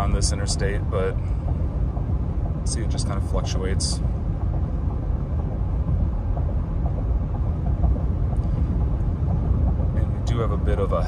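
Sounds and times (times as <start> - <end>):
road and engine rumble in cab: 0.0 - 11.0.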